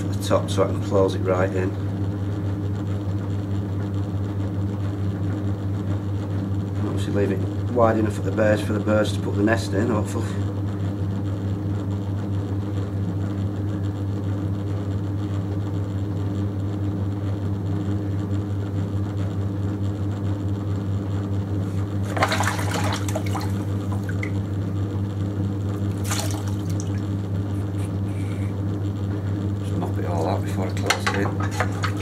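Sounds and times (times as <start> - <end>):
potter's wheel humming: 0.0 - 32.0.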